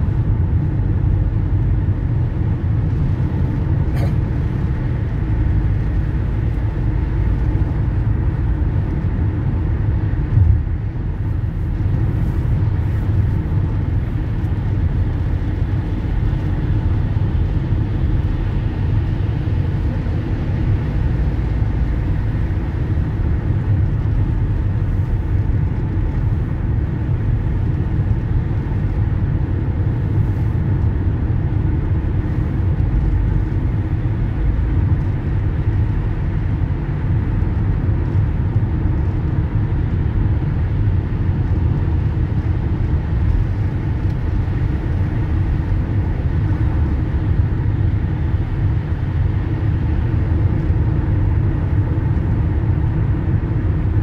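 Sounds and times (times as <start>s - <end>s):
vehicle road and engine rumble: 0.0s - 54.0s
tyres on wet road: 1.6s - 50.9s.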